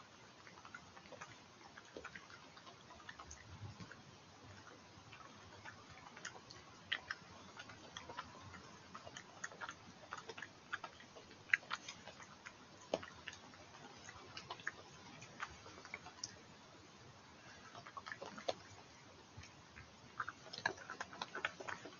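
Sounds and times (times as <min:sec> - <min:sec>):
badger chewing and crunching: 0:00.0 - 0:16.6, 0:17.3 - 0:21.9.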